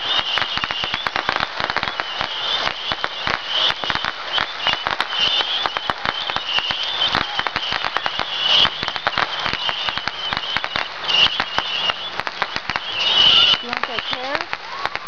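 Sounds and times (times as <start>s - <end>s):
firecrackers popping: 0.0s - 15.0s.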